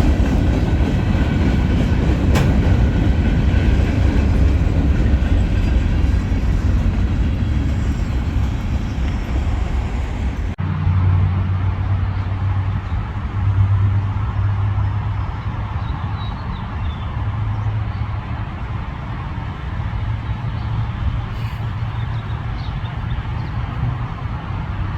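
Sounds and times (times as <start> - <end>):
freight train rumbling: 0.0 - 24.9.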